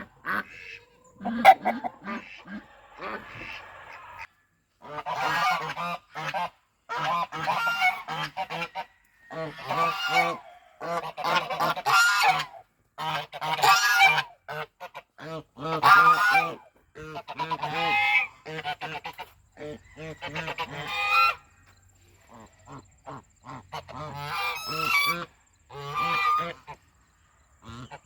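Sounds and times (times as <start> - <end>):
geese honking: 0.0 - 21.6, 22.3 - 26.9, 27.6 - 28.0.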